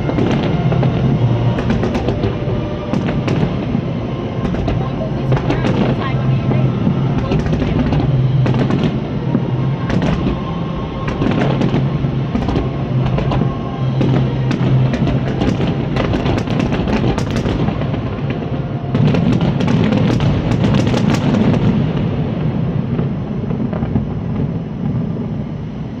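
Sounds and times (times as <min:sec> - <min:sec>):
music: 0:00.0 - 0:25.9
fireworks cracking: 0:00.0 - 0:26.0
low rumble: 0:00.0 - 0:26.0.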